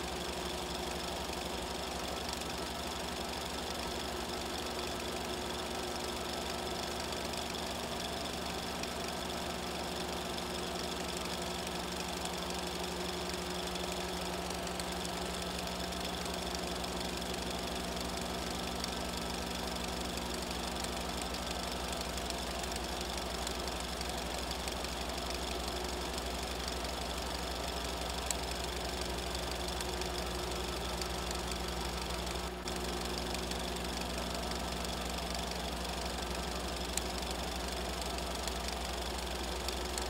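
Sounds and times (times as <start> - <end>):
film projector whirring: 0.0 - 40.0.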